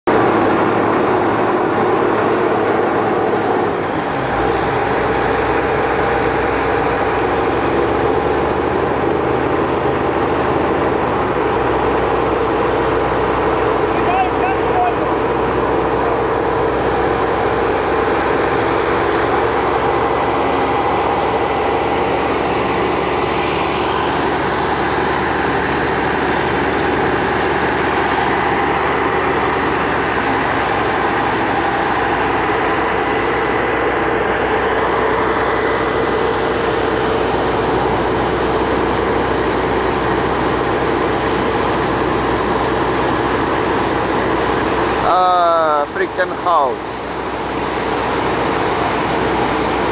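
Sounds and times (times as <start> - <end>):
heavy drilling machinery running: 0.1 - 49.9
water gushing into channel: 0.1 - 49.9.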